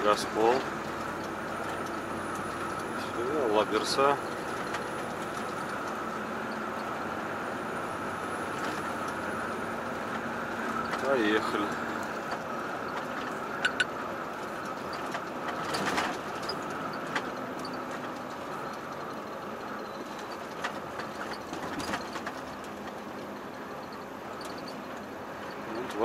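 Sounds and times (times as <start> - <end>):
truck engine and road drone: 0.0 - 26.0.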